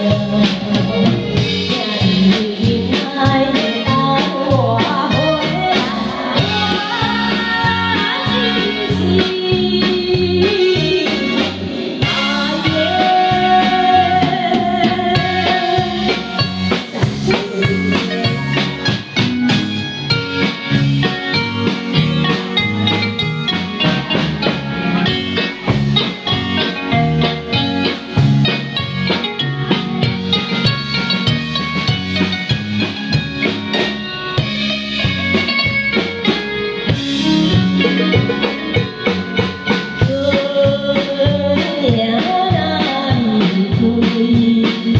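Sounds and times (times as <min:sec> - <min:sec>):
drum kit beat: 0:00.0 - 0:44.9
live band music: 0:00.0 - 0:44.9.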